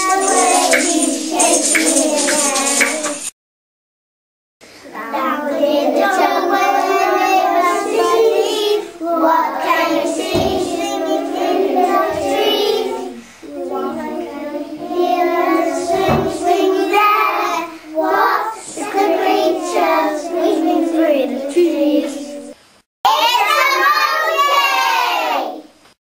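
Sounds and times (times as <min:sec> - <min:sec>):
children singing: 0:00.0 - 0:03.3, 0:04.9 - 0:22.6.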